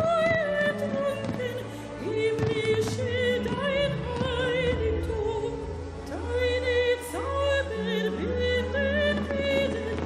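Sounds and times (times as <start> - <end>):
woman singing opera: 0.0 - 10.0.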